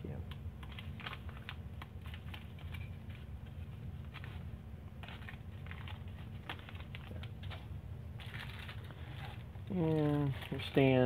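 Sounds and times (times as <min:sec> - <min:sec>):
steady low hum: 0:00.0 - 0:11.0
plastic bags crinkling: 0:00.1 - 0:11.0.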